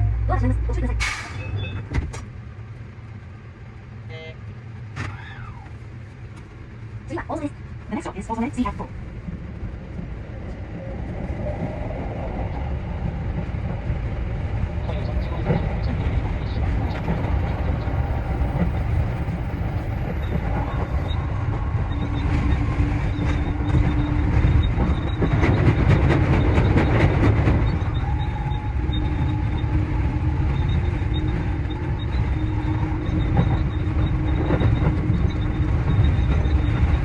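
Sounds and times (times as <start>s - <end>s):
electric train rumble: 0.0s - 37.0s.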